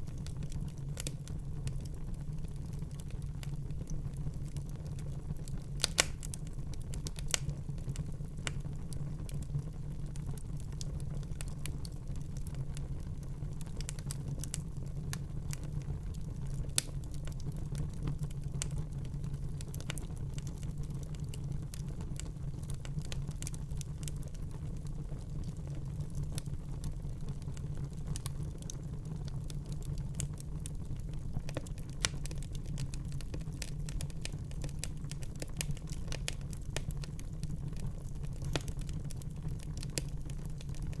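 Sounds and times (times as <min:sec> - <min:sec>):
low rumble of fire: 0:00.0 - 0:41.0
wood fire crackling: 0:00.0 - 0:41.0.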